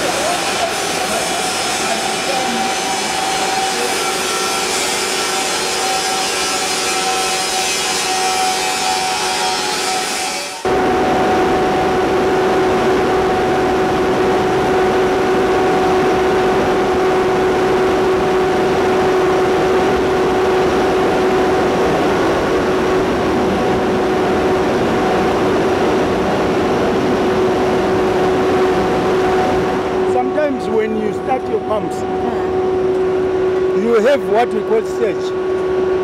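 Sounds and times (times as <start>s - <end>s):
pump machine drone: 0.0s - 36.0s.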